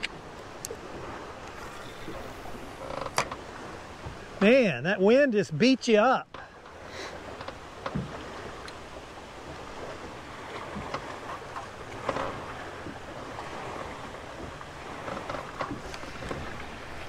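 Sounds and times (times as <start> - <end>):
water slapping boat hull: 0.0 - 17.0.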